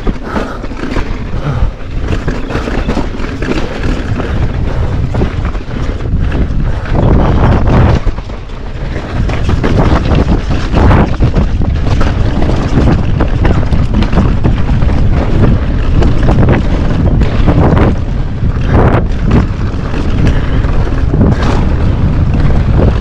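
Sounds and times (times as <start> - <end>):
bike knocks and rattles: 0.0 - 23.0
tyres rolling over dirt and rock: 0.0 - 23.0
wind buffeting a microphone: 0.0 - 23.0.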